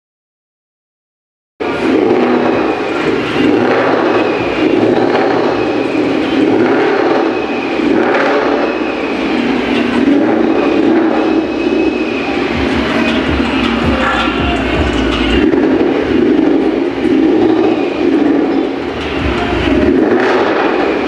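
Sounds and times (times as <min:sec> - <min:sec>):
car engine rumbling: 0:01.6 - 0:21.0.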